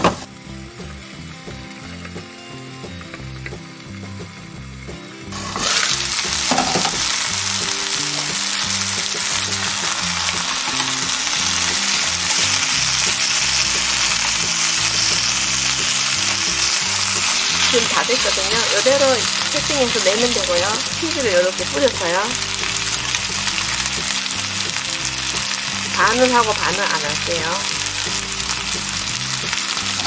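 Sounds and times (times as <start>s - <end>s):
meat sizzling in a frying pan: 0.1s - 30.0s.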